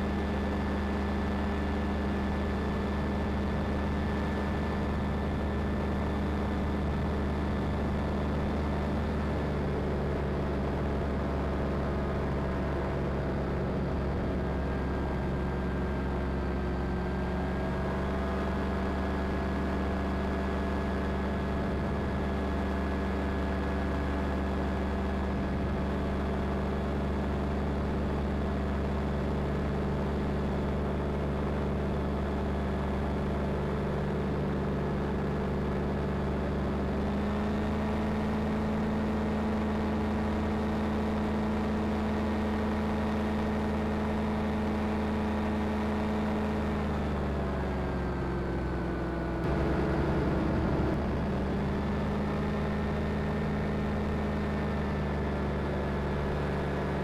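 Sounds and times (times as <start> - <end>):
aircraft engine and propeller droning: 0.0 - 57.0.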